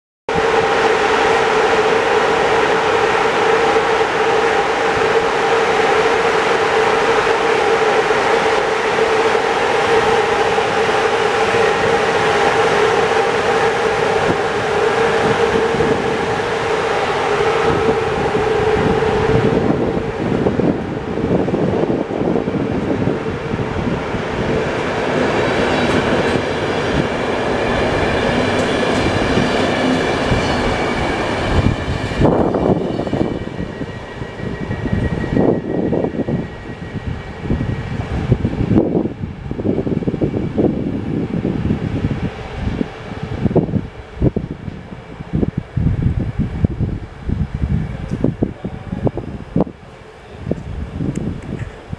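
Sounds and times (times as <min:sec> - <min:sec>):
electric locomotive humming: 0:00.3 - 0:51.9.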